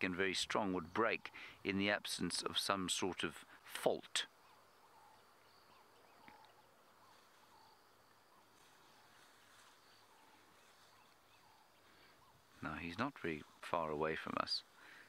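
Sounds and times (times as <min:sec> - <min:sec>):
faint chirps: 0:00.2 - 0:15.0.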